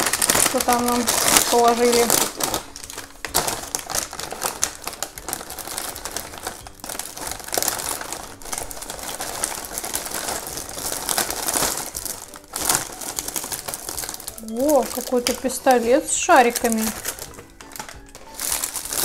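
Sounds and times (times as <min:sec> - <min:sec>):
cellophane wrapper crackling: 0:00.0 - 0:19.0
plastic snack bag crinkling: 0:00.0 - 0:19.0.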